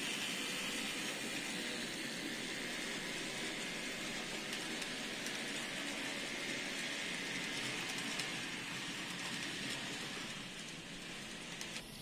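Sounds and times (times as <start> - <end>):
model train wheels hissing on rails: 0.0 - 12.0.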